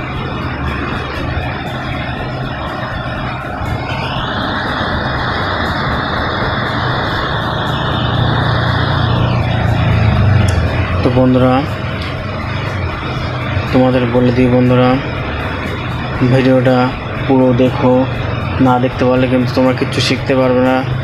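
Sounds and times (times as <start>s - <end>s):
fan motor hum: 0.0s - 21.0s
rush of air from fan blades: 0.0s - 21.0s.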